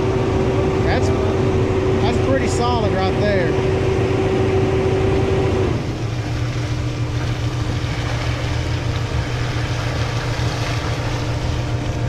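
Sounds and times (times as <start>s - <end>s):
concrete pump engine running: 0.0s - 12.0s.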